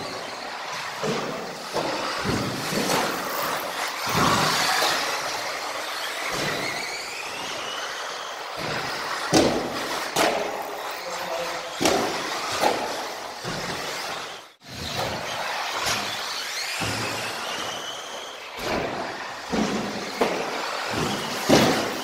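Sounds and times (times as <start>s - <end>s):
toy cars landing knocks: 0.8s - 10.9s, 11.8s - 22.0s.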